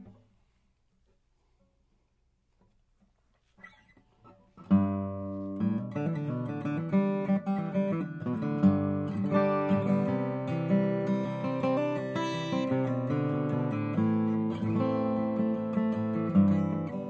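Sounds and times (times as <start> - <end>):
acoustic guitar chords and notes: 2.6 - 17.0.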